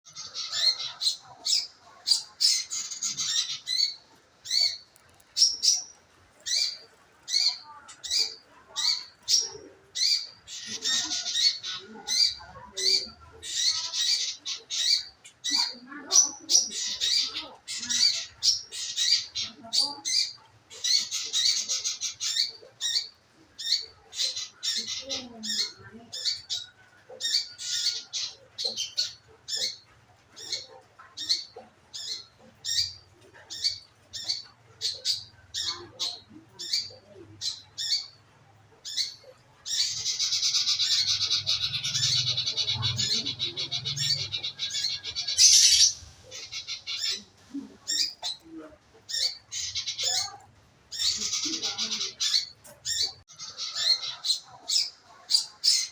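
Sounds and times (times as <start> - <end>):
bird calling and chattering: 0.0 - 55.9.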